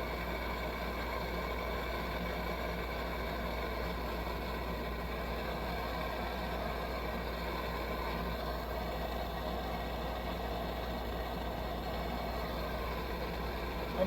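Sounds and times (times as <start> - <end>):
pressurized stove burner running: 0.0 - 14.0.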